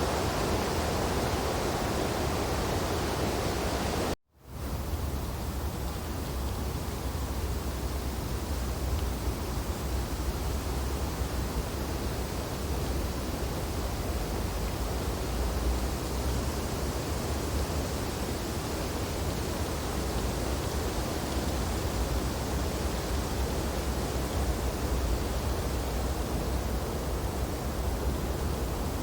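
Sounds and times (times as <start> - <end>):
wind through tree branches: 0.0 - 29.0.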